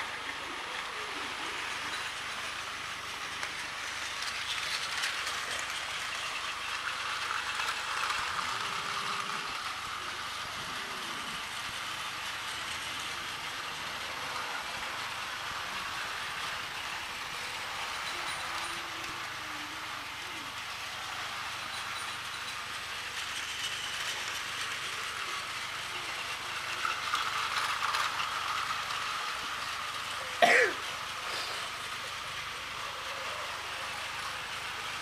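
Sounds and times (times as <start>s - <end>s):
toy train motors whirring: 0.0s - 35.0s
wheels rattling on plastic track: 0.0s - 35.0s.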